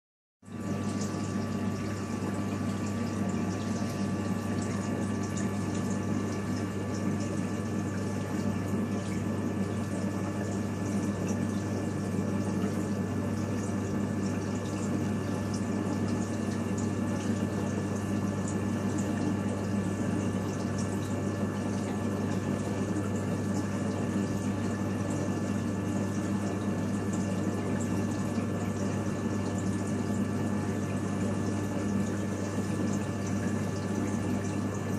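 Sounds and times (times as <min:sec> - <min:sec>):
pump low hum: 0:00.4 - 0:34.9.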